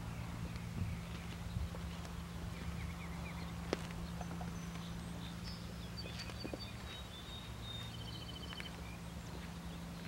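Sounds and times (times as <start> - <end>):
birds whistling: 0.0 - 10.0
steady low hum: 0.0 - 10.0.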